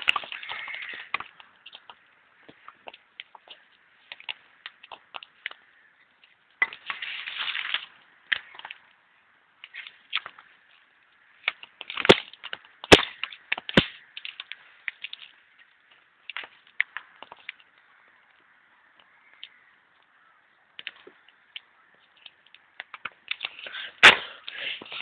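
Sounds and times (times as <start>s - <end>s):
loud sharp wooden cracks: 0.0s - 9.0s, 9.6s - 18.4s, 19.0s - 25.0s
dense rustling crunch: 0.0s - 18.4s, 19.1s - 25.0s
campfire crackling: 0.0s - 25.0s.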